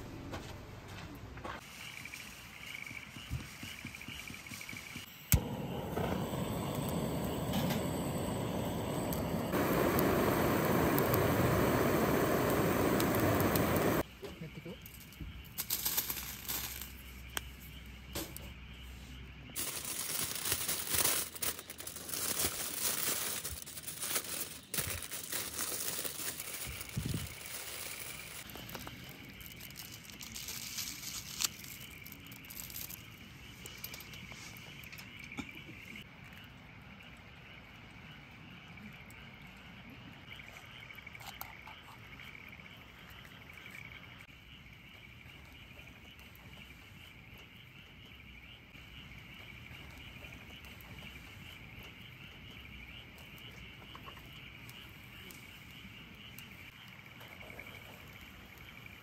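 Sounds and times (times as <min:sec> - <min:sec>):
frogs or insects trilling: 0:01.6 - 0:59.0.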